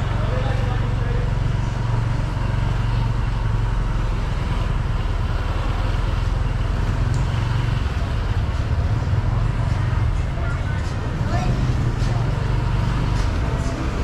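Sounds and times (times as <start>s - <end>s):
surrounding traffic: 0.0s - 14.0s
vehicle engine and road noise: 0.0s - 14.0s.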